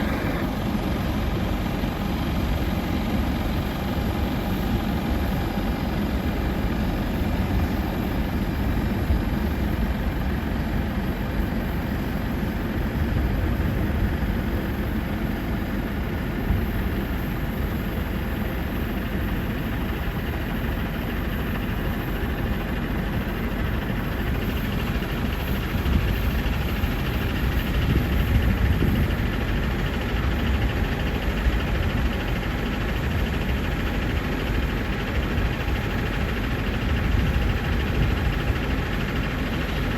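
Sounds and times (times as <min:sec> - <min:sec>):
jet engine rumbling: 0:00.0 - 0:39.9.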